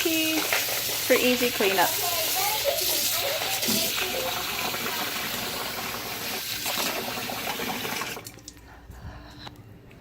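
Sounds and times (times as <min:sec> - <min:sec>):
tap water running into sink: 0:00.0 - 0:08.4.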